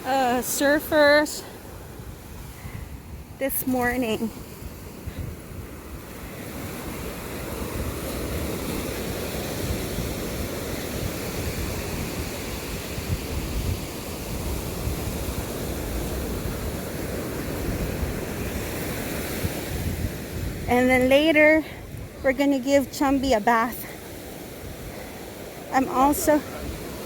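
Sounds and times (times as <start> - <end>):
ocean surf washing ashore: 0.0 - 27.0
wind buffeting microphone: 0.0 - 27.0.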